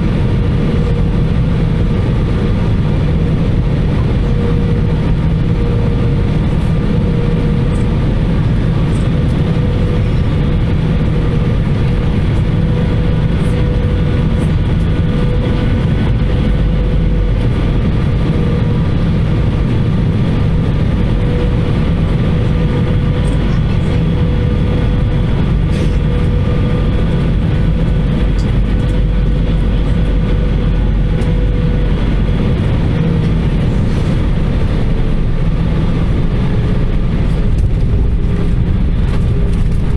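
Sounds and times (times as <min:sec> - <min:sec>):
airplane cabin rumble: 0:00.0 - 0:39.9
steady engine whine: 0:00.0 - 0:39.9.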